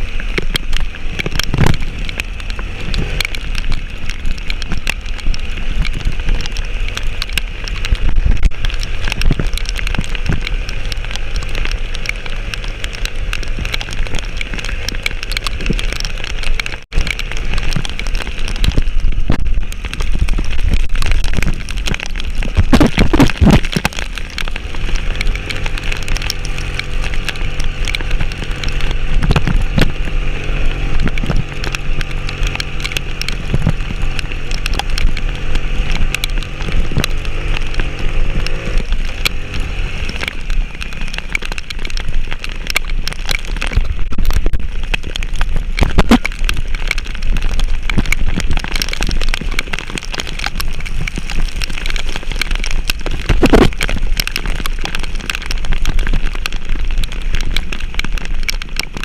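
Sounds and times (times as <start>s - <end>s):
vehicle engine running: 0.0s - 53.2s.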